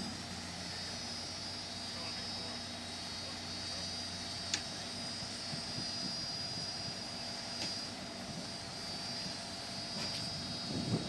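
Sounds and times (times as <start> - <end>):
diesel engines under load: 0.0 - 11.0
high whine: 0.0 - 11.0.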